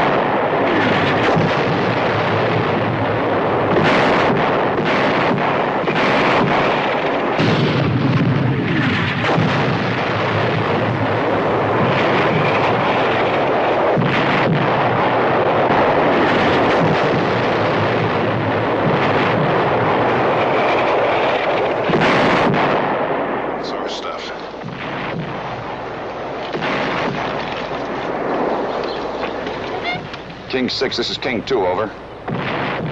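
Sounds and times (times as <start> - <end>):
artillery explosions: 0.0 - 32.9
sharp gunshots: 0.0 - 32.9.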